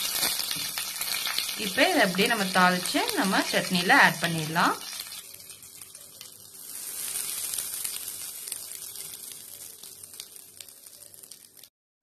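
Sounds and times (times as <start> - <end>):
hot oil sizzling and crackling: 0.0 - 11.7.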